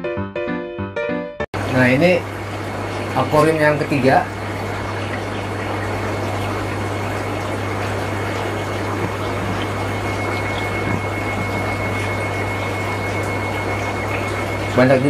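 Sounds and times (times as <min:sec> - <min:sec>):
constant low hum: 0:01.6 - 0:15.0
rushing bubbling aquarium water: 0:01.6 - 0:15.0.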